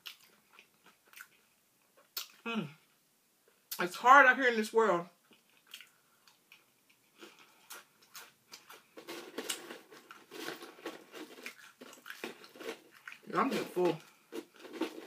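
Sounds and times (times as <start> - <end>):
chewing crunchy chips: 0.0 - 2.5, 5.3 - 15.0.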